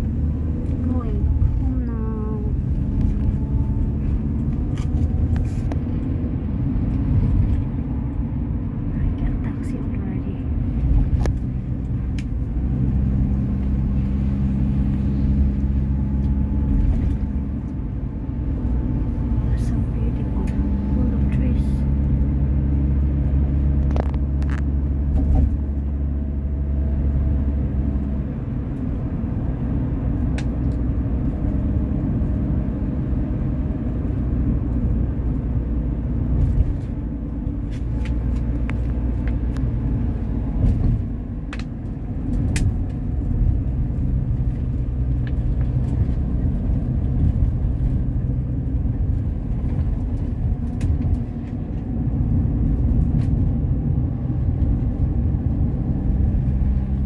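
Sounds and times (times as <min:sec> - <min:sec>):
engine and road rumble in cabin: 0:00.0 - 0:57.0.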